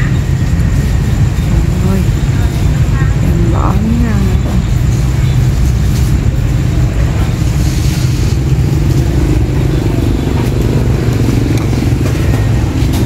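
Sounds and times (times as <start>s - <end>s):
faint engine tone: 0.0s - 13.0s
street traffic rumble: 0.0s - 13.0s.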